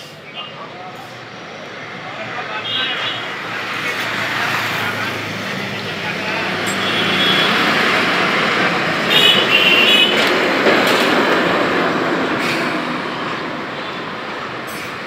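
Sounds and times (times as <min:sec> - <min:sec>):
passing vehicle: 0:01.3 - 0:15.0.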